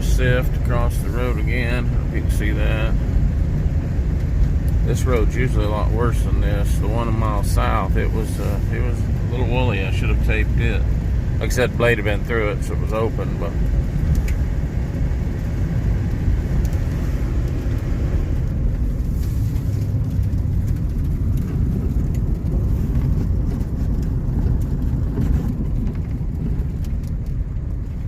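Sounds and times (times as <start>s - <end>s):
vehicle engine and tyre rumble: 0.0s - 28.0s.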